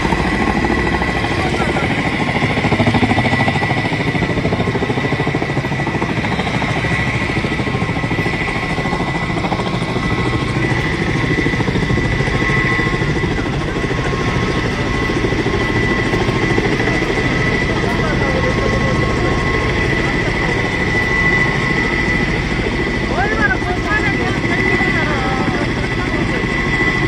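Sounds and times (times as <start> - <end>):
helicopter rotor chop: 0.0 - 27.0
high turbine whine: 0.0 - 27.0.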